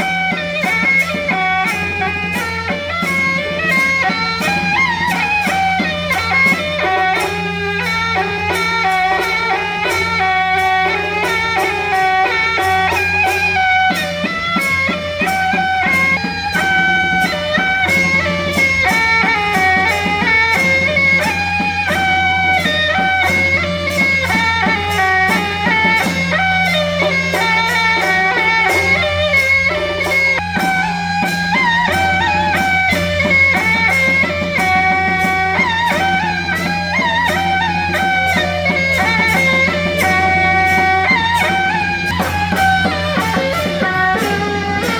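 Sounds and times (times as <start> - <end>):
plucked string melody: 0.0 - 44.9
steady percussive beat: 0.0 - 44.9.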